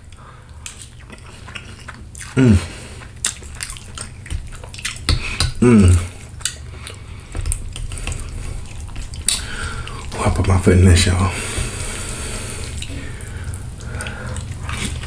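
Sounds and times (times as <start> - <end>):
wet chewing and slurping: 0.0 - 10.3, 11.4 - 15.0.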